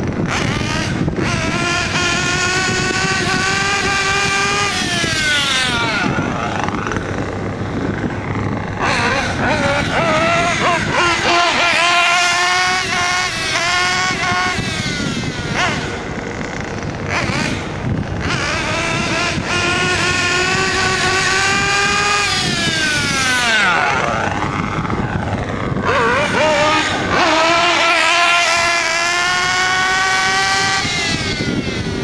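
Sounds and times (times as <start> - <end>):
model car engine whining: 0.0 - 32.0.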